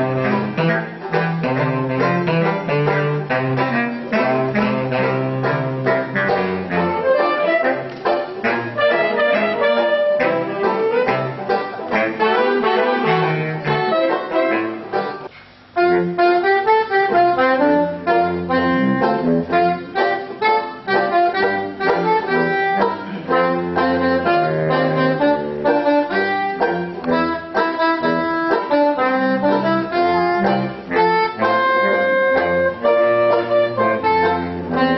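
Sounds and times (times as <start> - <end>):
saxophone ensemble playing: 0.0 - 34.9.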